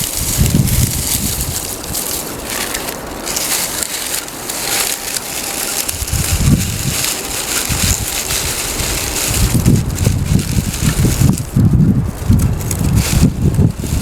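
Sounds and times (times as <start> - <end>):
campfire crackling and hissing: 0.0 - 14.0
wind buffeting microphone: 0.0 - 14.0.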